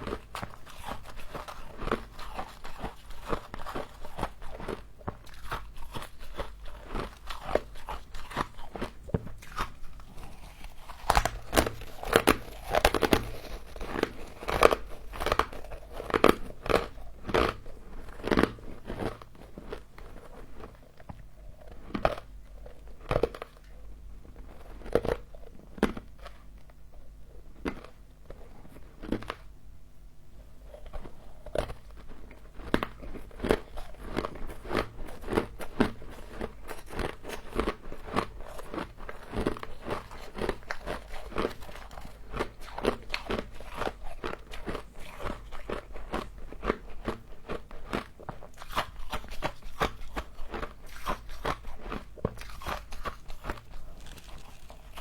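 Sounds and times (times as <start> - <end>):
frost crunching being chewed: 0.0 - 29.5, 30.4 - 55.0.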